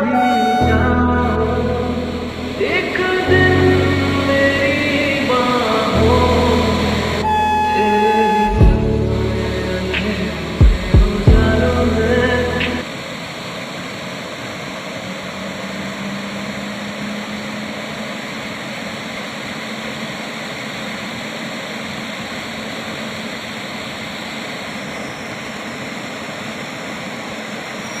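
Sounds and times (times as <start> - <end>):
electric locomotive fan rushing: 0.0 - 28.0.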